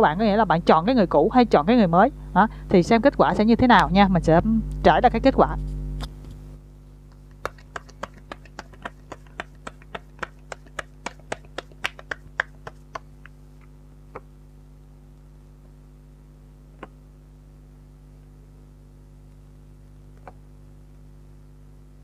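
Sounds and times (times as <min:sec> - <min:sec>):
low mains hum: 0:00.0 - 0:22.0.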